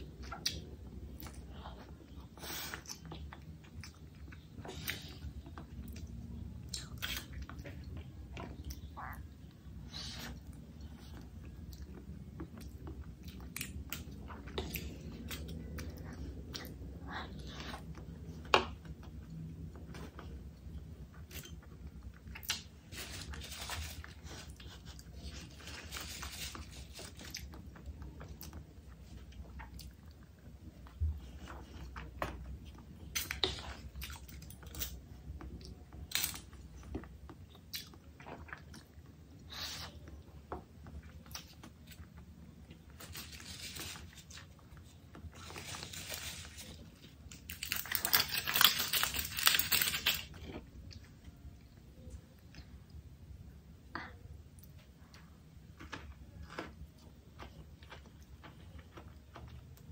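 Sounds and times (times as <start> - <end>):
person chewing and crunching food: 0.0 - 51.7, 54.6 - 59.9.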